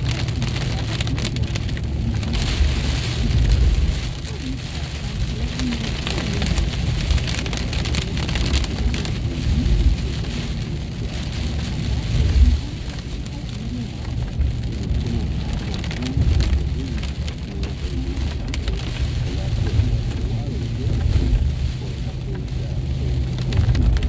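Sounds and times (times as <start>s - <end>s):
heavy rain drumming on car: 0.0s - 24.0s
road and engine rumble: 0.0s - 24.0s.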